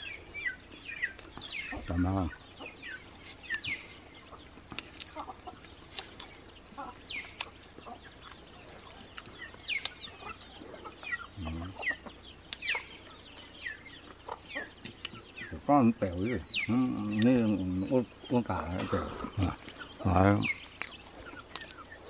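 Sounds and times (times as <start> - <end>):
chickens peeping and clucking: 0.0 - 22.0.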